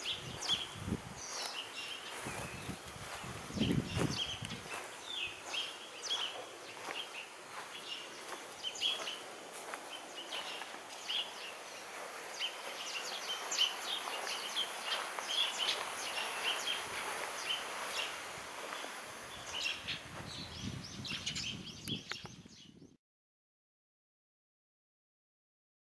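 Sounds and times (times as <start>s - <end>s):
outdoor background hiss: 0.0s - 22.8s
small birds chirping: 0.0s - 23.0s.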